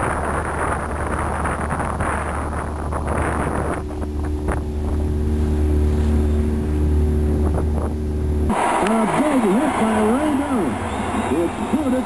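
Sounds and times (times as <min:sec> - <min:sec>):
engine-like hum: 0:00.0 - 0:12.0
wind rumbling on microphone: 0:00.0 - 0:12.0.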